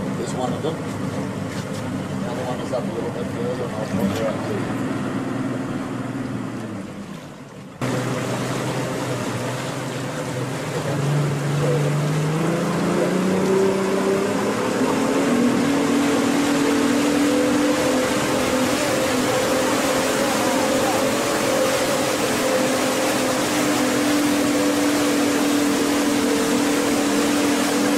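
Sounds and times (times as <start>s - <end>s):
boat engine running: 0.0s - 27.9s
water rushing: 0.0s - 27.9s
wind: 0.0s - 27.9s.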